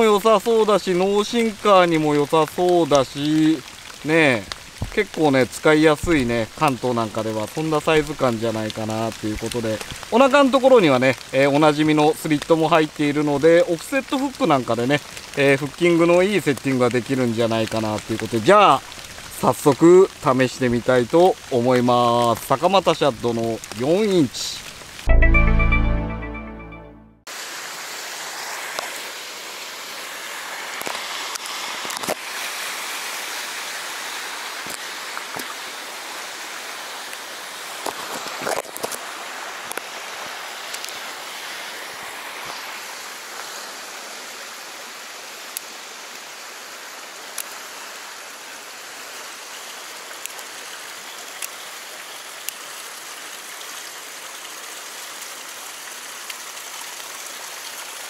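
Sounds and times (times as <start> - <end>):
stream flowing over rocks: 0.0 - 26.7, 27.3 - 58.0.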